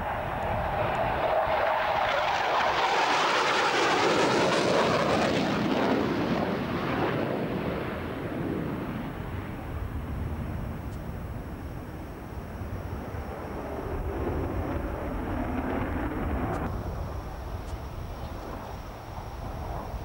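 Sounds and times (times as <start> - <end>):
jet engine roar passing: 0.0 - 20.0.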